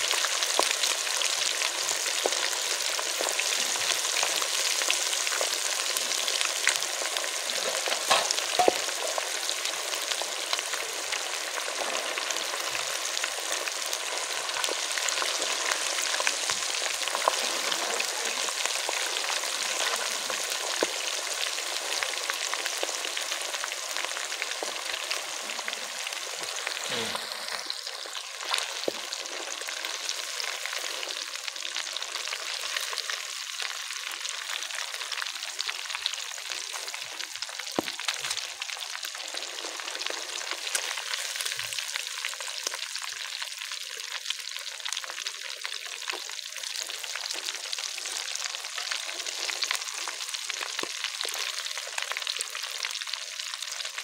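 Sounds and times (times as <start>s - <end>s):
fish deep-frying in hot oil: 0.0s - 54.0s.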